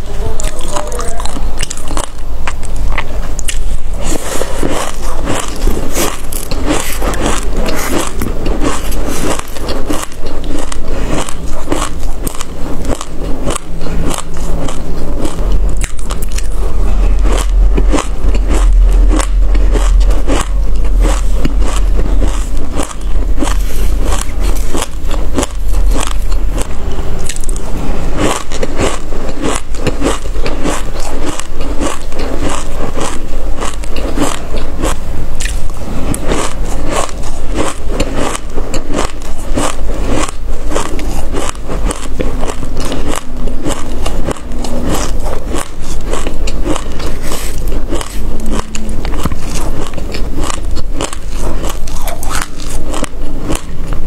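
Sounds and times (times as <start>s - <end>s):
spoon scraping through seeds: 0.0s - 53.7s
chewing and crunching seeds: 0.0s - 54.0s.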